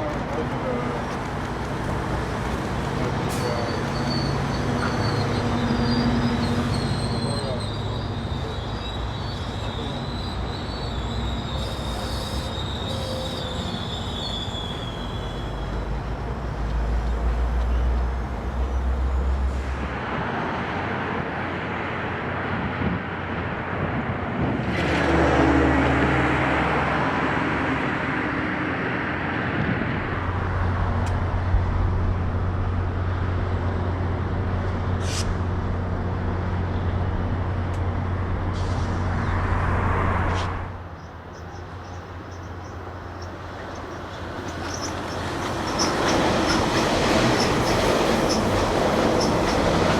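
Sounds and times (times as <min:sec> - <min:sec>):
diesel locomotive engine drone: 0:00.0 - 0:49.9
wheels rushing on rail: 0:00.0 - 0:49.9.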